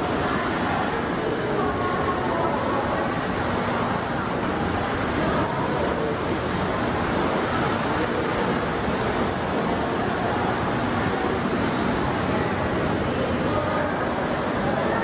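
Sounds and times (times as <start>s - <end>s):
pool water sloshing: 0.0s - 15.0s
wind: 0.0s - 15.0s.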